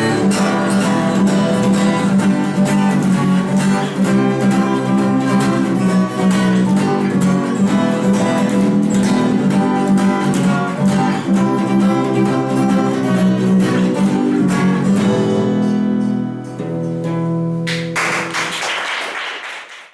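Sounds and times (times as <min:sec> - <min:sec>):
acoustic guitar strumming: 0:00.0 - 0:18.6.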